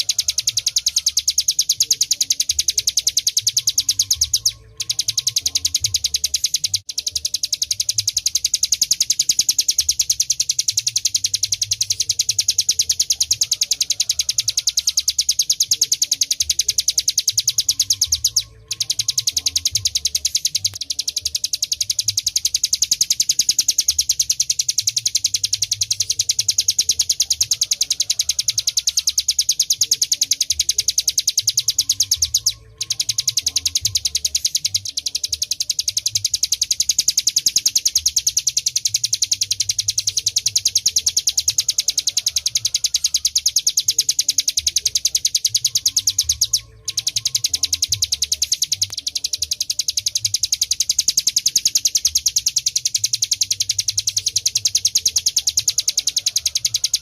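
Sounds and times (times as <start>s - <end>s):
bird singing rapid high trill: 0.0s - 57.0s.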